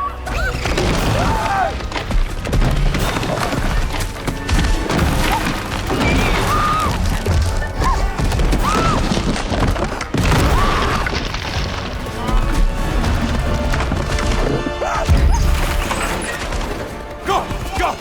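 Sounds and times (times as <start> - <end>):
dramatic music: 0.0 - 18.0.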